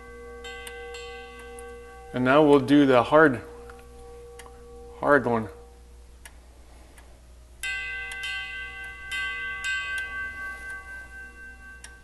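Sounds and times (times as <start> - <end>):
tubular chime struck ringing: 0.0 - 6.0, 7.6 - 12.0.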